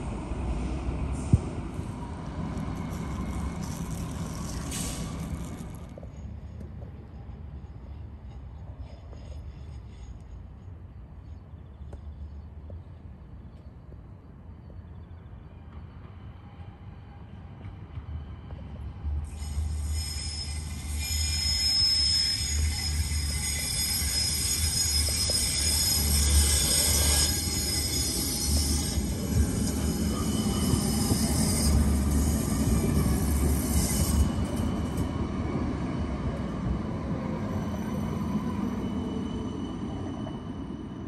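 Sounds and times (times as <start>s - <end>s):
tram wheels squealing: 0.0s - 12.4s, 14.9s - 41.0s.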